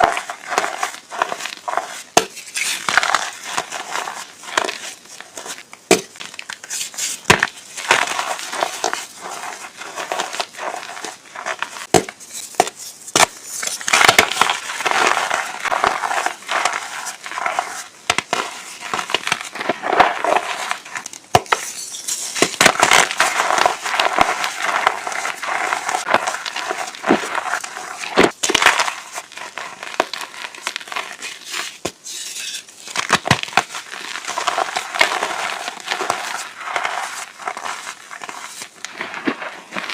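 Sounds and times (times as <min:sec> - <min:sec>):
chalk crunching and snapping: 0:00.0 - 0:39.9.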